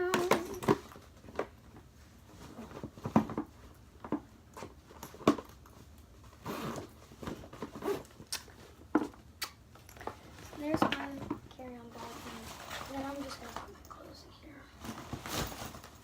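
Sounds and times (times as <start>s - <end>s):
items knocking and rustling in bag: 0.0s - 9.2s, 10.0s - 13.8s, 14.8s - 16.0s.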